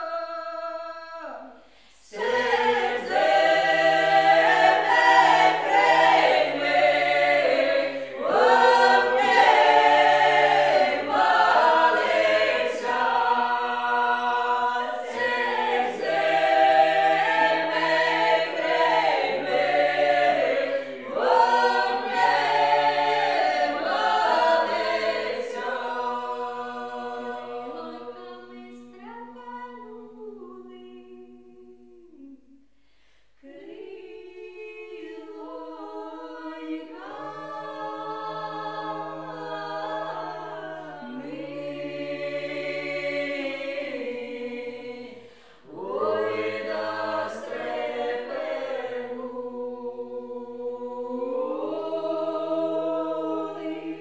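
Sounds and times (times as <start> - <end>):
group singing a cappella in harmony: 0.0 - 54.0.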